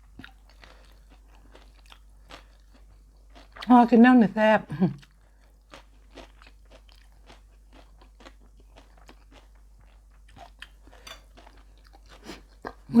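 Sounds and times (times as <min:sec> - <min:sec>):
person chewing food: 0:00.0 - 0:03.7, 0:04.9 - 0:13.0.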